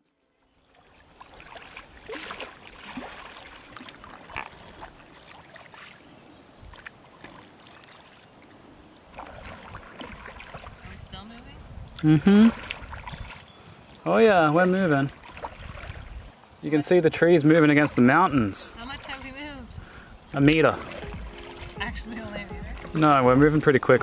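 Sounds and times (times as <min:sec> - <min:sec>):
oars splashing through water: 0:00.5 - 0:24.0
steady wash of water: 0:00.6 - 0:24.0.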